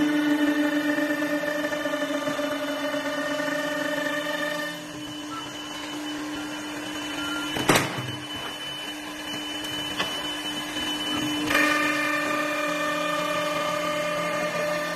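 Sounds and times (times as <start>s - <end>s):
high-pitched whine: 0.0s - 14.9s
wood lathe motor hum: 0.0s - 14.9s.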